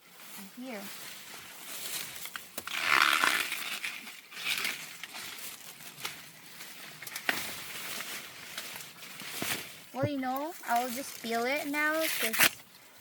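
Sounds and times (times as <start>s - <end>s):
dry corn leaves rustling: 0.0s - 13.0s.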